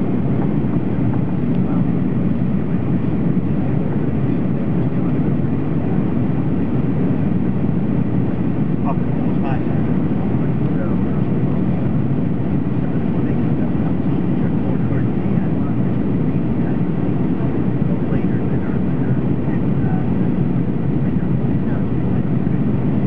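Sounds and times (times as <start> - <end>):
jet engine cabin noise: 0.0 - 23.0
rushing airflow: 0.0 - 23.0.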